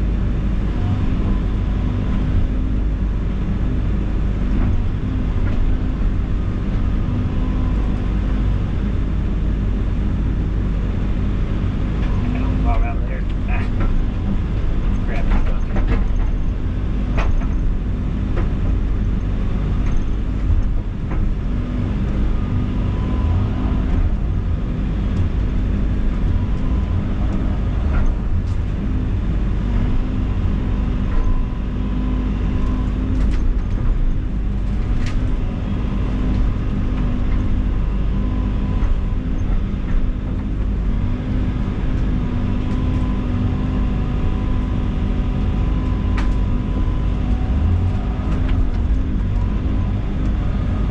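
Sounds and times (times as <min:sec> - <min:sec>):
diesel engine under load: 0:00.0 - 0:50.9.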